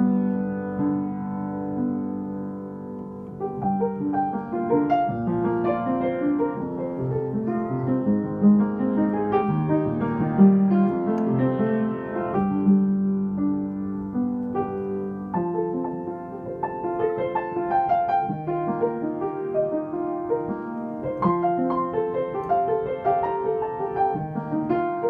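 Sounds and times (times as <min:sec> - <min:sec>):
upright piano playing: 0:00.0 - 0:25.0.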